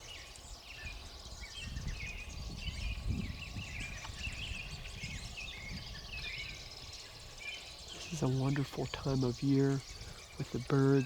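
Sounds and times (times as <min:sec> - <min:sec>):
wild birds singing and calling: 0:00.0 - 0:11.0.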